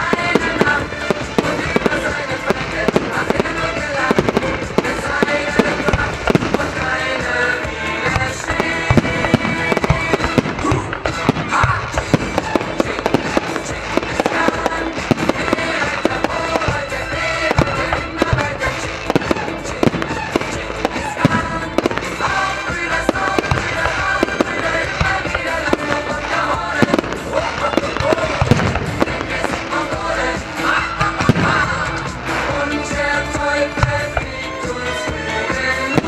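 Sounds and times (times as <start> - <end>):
fireworks bursting: 0.0 - 36.0
music: 0.0 - 36.0.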